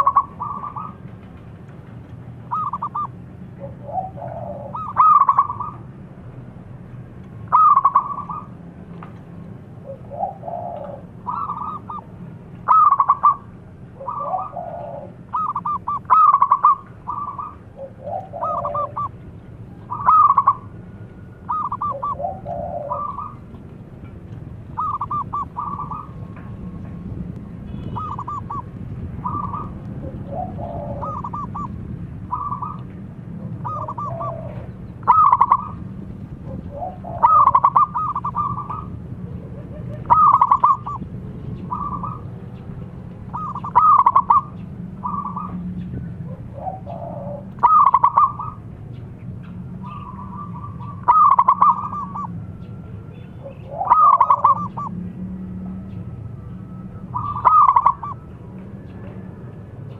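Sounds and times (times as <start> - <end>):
dove cooing: 0.0 - 1.2, 2.4 - 5.9, 7.4 - 8.6, 9.7 - 23.6, 24.7 - 26.6, 27.8 - 42.5, 43.2 - 48.7, 49.8 - 55.1, 56.5 - 59.3.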